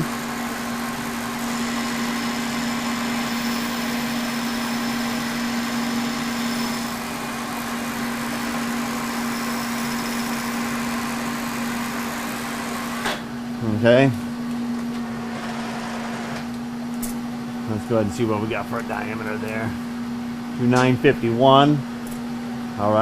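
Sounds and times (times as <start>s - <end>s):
milling machine humming: 0.0s - 23.0s.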